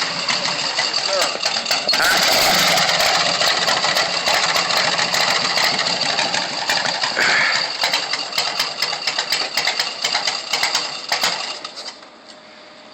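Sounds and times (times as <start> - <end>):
scooter engine clattering: 0.0 - 12.1.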